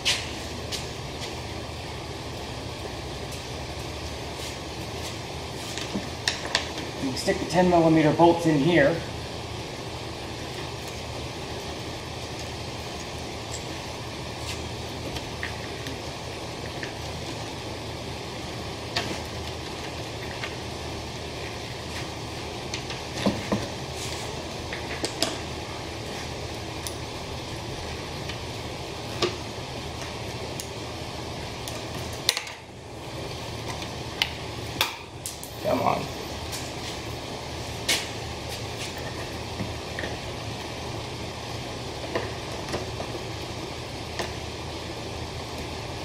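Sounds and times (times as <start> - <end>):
workshop background hum: 0.0 - 46.0.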